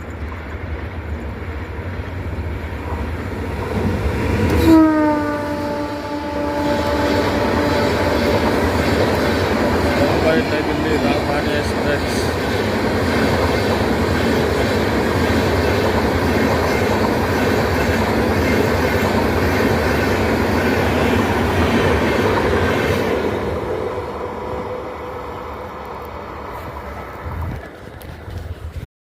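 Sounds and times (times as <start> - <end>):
passenger train rumbling past: 0.0 - 28.8.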